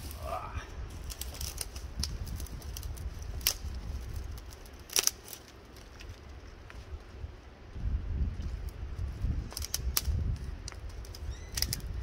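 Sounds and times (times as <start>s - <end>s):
twigs crackling in fire: 0.0s - 12.0s.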